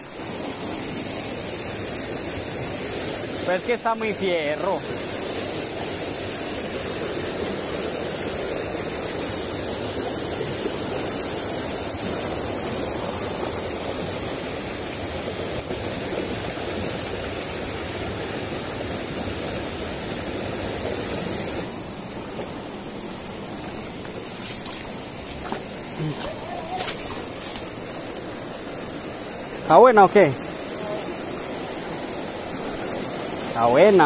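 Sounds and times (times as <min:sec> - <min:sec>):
water rushing over boulders: 0:00.0 - 0:34.0.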